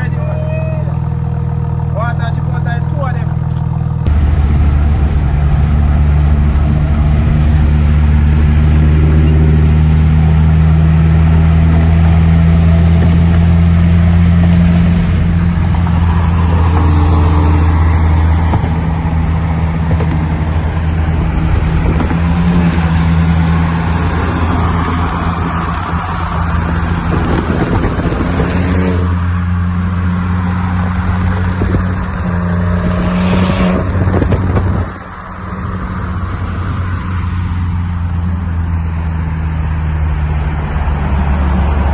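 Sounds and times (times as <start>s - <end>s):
engine and exhaust drone: 0.0s - 41.9s.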